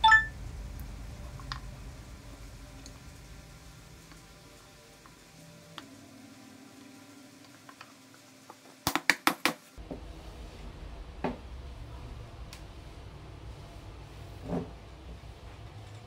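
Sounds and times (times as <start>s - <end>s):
low room hum: 0.0s - 8.5s, 9.8s - 16.0s.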